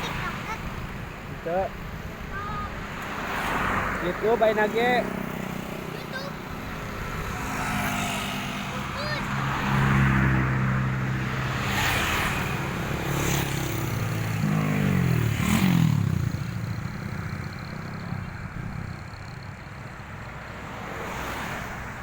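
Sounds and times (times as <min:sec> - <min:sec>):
general traffic noise: 0:00.0 - 0:22.0
bus passing close by: 0:02.0 - 0:22.0.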